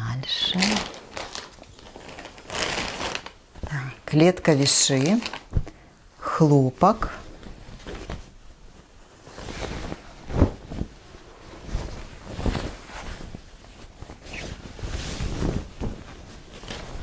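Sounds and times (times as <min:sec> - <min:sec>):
fabric rustling and flapping: 0:00.3 - 0:03.8, 0:04.7 - 0:06.1, 0:06.9 - 0:17.0.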